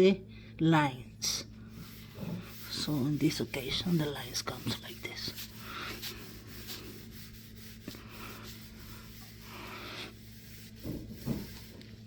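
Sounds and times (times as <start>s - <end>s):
cloth scrubbing stainless steel: 1.7s - 12.0s.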